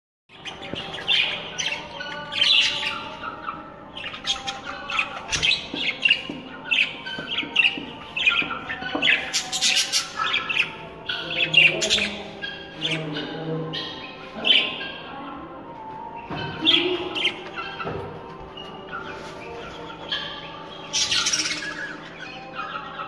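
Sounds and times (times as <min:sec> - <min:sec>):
budgerigars chirping: 0:00.3 - 0:23.0.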